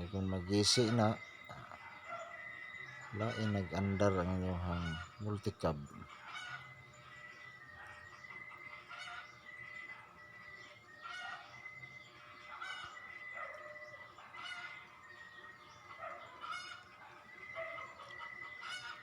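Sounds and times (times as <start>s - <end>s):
fowl calling: 0.0s - 19.0s.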